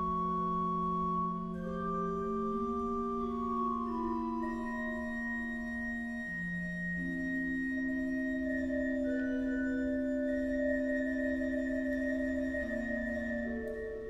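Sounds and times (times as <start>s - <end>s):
pipe organ chords: 0.0s - 14.0s.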